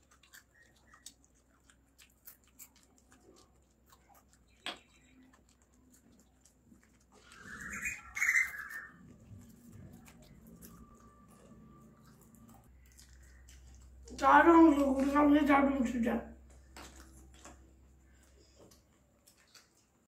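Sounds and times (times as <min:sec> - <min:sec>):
crisp fried snack being chewed: 0:00.0 - 0:15.6, 0:16.4 - 0:20.0.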